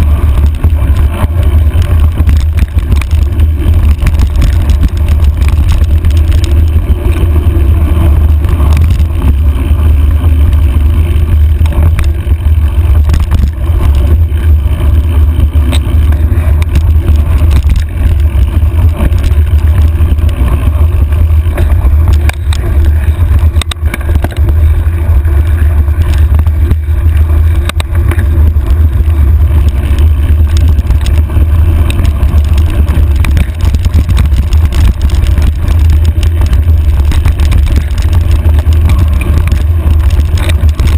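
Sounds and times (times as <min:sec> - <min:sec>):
bike clicks and rattles: 0:00.0 - 0:40.9
wind buffeting microphone: 0:00.0 - 0:40.9.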